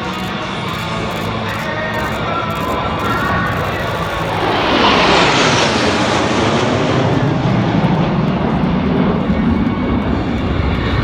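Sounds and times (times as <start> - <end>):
jet roar passing overhead: 0.0 - 11.0.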